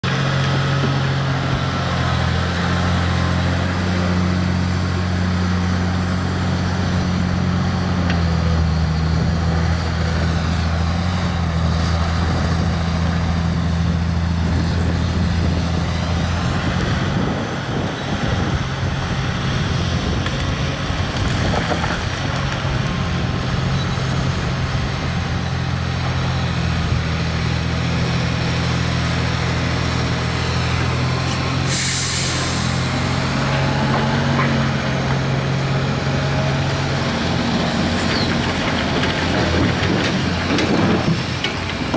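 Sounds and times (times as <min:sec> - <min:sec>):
excavator digging and loading: 0:00.0 - 0:41.9
heavy diesel engines running: 0:00.0 - 0:41.9.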